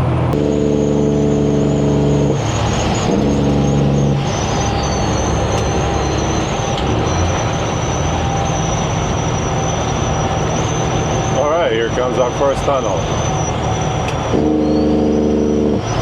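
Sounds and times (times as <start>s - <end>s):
road and wind noise: 0.0s - 16.0s
truck diesel engine droning: 0.0s - 16.0s
falling whine: 0.2s - 16.0s
high turbo whistle: 0.4s - 16.0s.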